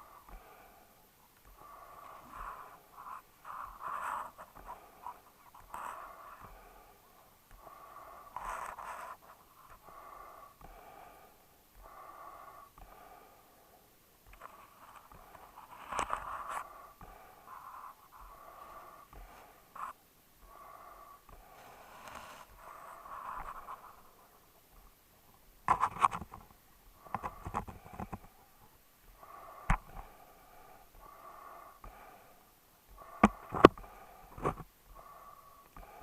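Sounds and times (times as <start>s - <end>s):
dog breathing noisily: 0.0s - 24.9s, 25.7s - 36.0s.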